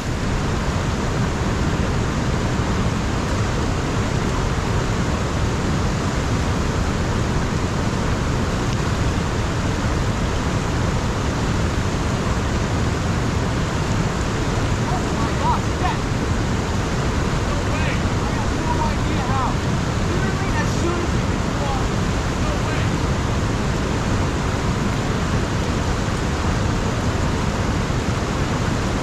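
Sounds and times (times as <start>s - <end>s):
river water flowing: 0.0s - 29.0s
wind: 0.0s - 29.0s
wind buffeting microphone: 0.0s - 29.0s.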